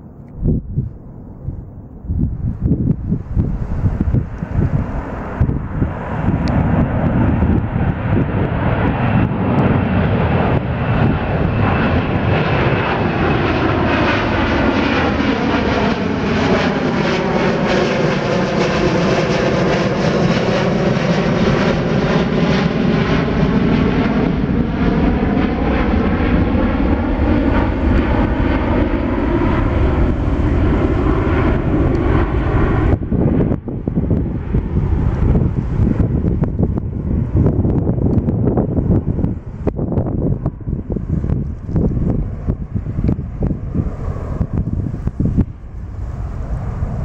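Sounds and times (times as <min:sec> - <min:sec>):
jet roar overhead: 0:00.0 - 0:47.0.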